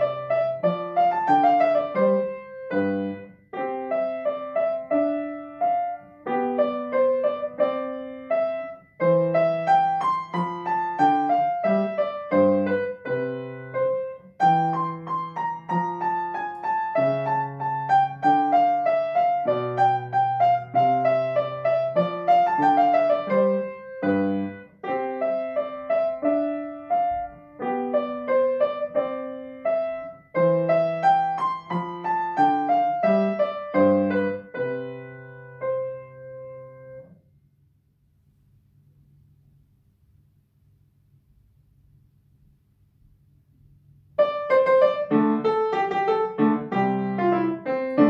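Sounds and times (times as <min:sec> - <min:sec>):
grand piano playing: 0:00.0 - 0:37.1, 0:44.2 - 0:48.0.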